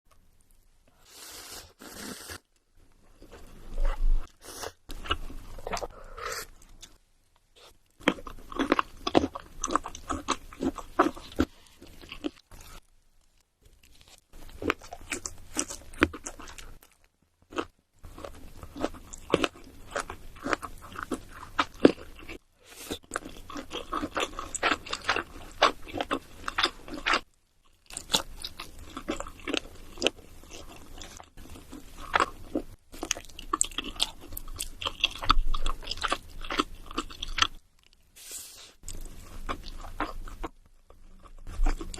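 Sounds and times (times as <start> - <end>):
crunchy food being chewed: 7.6 - 38.1, 38.8 - 41.9.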